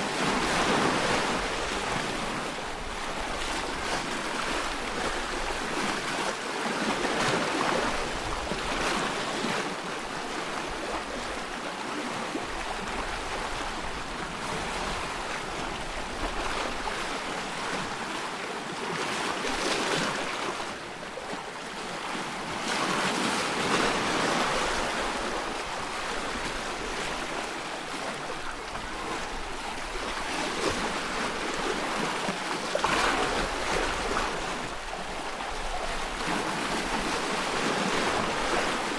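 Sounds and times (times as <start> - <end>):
waves breaking on rocky shore: 0.0 - 38.9.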